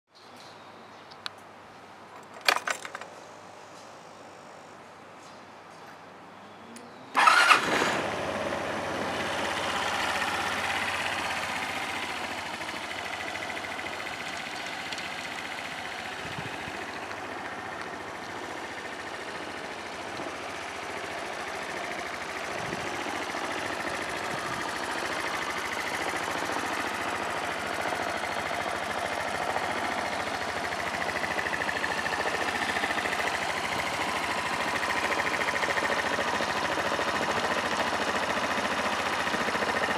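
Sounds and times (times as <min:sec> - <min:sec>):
scooter engine starting and idling: 0:02.4 - 0:03.1, 0:07.1 - 0:39.9.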